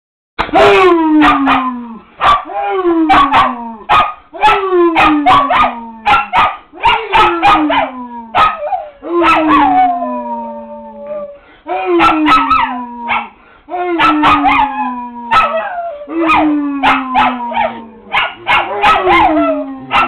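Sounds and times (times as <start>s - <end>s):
dog howling: 0.5s - 3.8s, 4.4s - 20.0s
man howling: 0.5s - 3.8s, 4.4s - 6.1s, 7.0s - 8.4s, 9.0s - 20.0s
dog barking and yipping: 0.6s - 2.5s, 3.1s - 9.9s, 12.0s - 13.4s, 14.0s - 20.0s.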